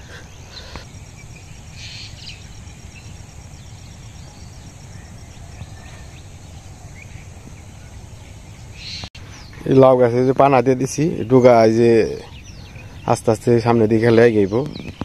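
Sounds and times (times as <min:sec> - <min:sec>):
faint bird chirps: 0:00.0 - 0:15.0
insect trill: 0:00.0 - 0:15.0.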